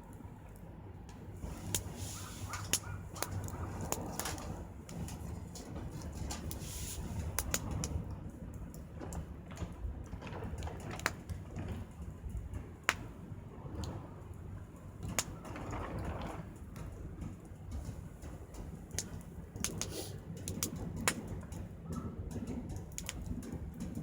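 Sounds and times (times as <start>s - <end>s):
low fire rumble: 0.0s - 24.0s
campfire crackling and popping: 0.1s - 13.2s, 14.9s - 24.0s.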